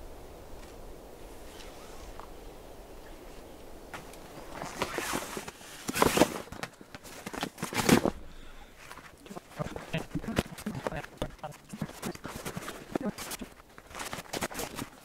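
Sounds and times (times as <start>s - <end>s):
nylon rustling and scraping: 1.4s - 2.3s, 3.2s - 15.0s.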